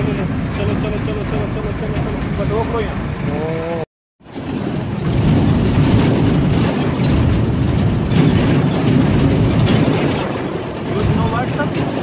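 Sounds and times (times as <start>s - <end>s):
jeep engine and ride rumble: 0.0s - 12.0s.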